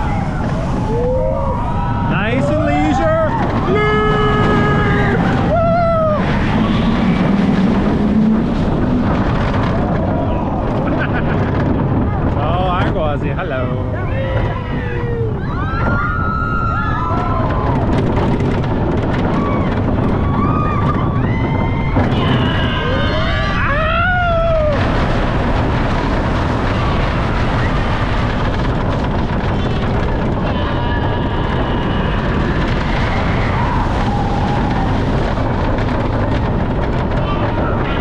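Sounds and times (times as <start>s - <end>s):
roller coaster train rumble: 0.0s - 38.0s
wind rushing over microphone: 0.0s - 38.0s
riders crying out: 0.7s - 8.0s, 14.0s - 38.0s.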